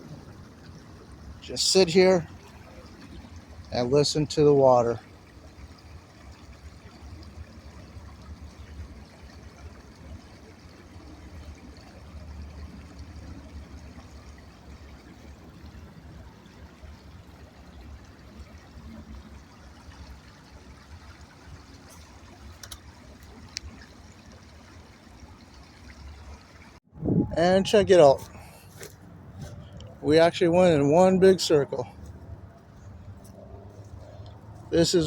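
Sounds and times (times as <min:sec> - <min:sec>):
stream trickling over stones: 0:00.0 - 0:35.0.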